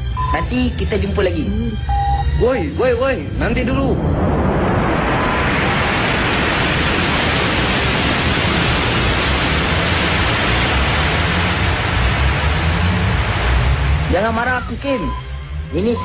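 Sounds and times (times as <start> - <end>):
rushing rocket thrust effect: 2.8 - 16.0.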